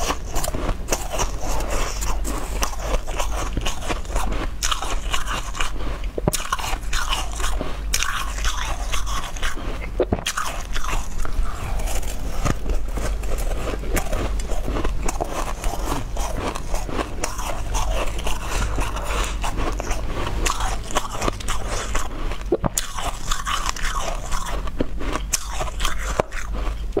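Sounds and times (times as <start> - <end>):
chewing crunchy shaved ice: 0.0 - 27.0.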